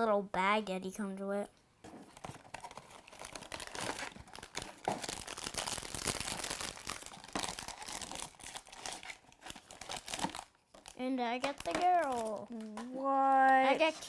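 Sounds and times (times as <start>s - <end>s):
packaging crinkling and tearing: 2.1s - 14.0s.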